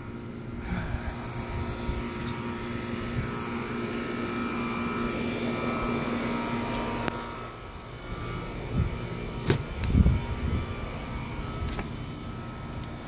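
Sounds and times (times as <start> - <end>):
machine drone: 0.0 - 13.0.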